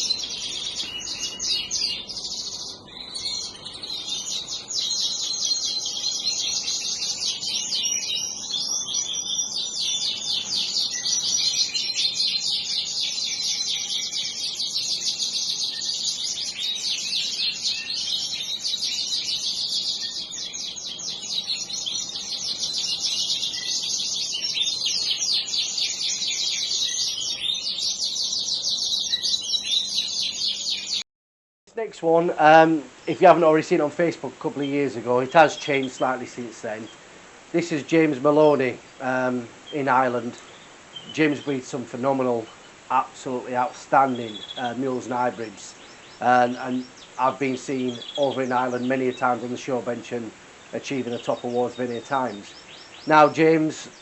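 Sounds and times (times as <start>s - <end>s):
small birds chirping and twittering: 0.0s - 31.0s, 31.8s - 54.0s.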